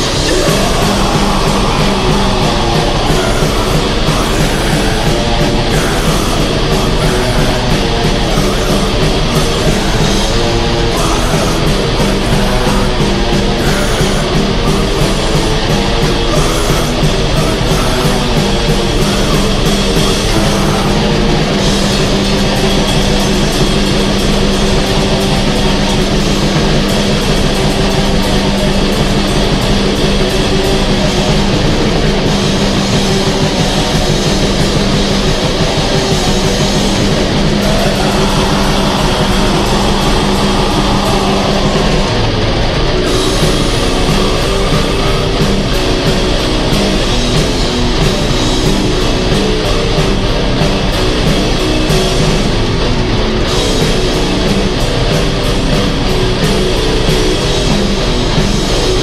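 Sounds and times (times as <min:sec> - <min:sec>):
distorted electric guitars: 0:00.0 - 0:59.0
fast dense drumming: 0:00.0 - 0:59.0.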